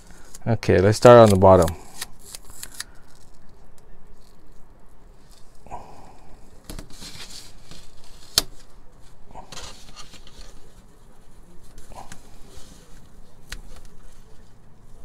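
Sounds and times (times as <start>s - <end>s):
tape and filter rustling: 0.0s - 15.0s.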